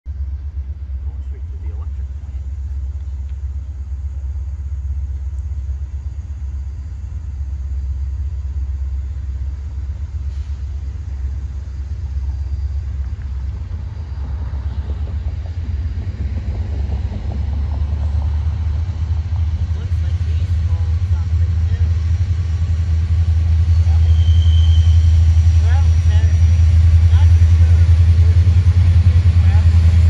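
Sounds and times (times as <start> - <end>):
diesel locomotives rumbling: 0.0 - 30.0
train wheel noise: 0.1 - 30.0.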